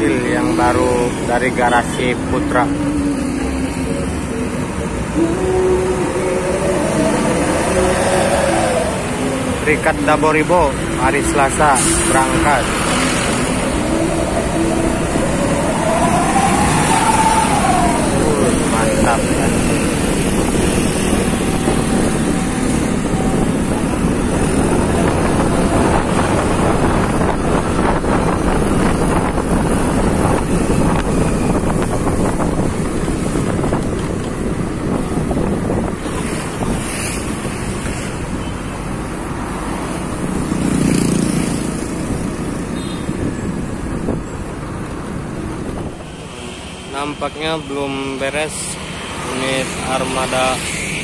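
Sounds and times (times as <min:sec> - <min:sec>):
wind on microphone: 0:00.0 - 0:46.4
engine and road noise: 0:00.0 - 0:51.0.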